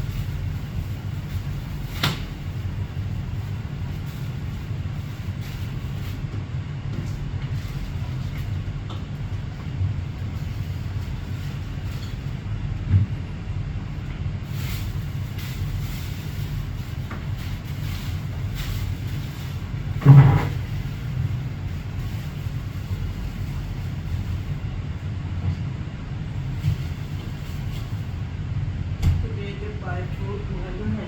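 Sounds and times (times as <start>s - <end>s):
low engine rumble: 0.0s - 31.0s.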